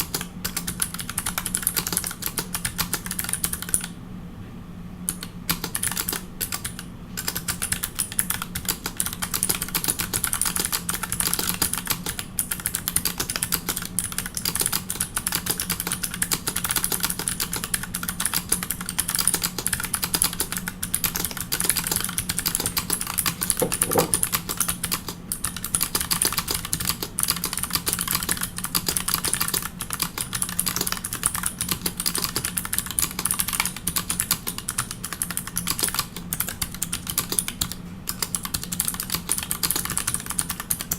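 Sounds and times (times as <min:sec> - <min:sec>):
fast mechanical keyboard typing: 0:00.0 - 0:03.9, 0:05.1 - 0:40.9.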